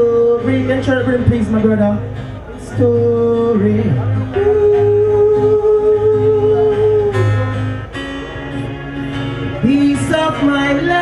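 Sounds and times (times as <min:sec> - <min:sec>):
guitar: 0:00.0 - 0:11.0.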